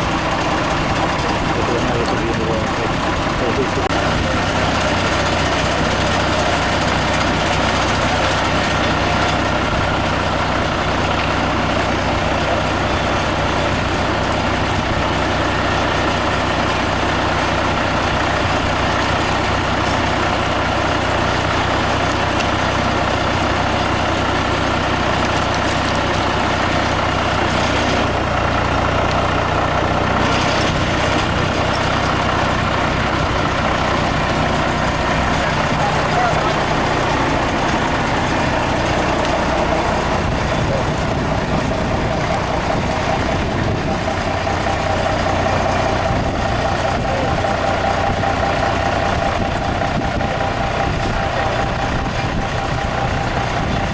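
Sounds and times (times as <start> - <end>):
heavy engine humming: 0.0 - 53.9.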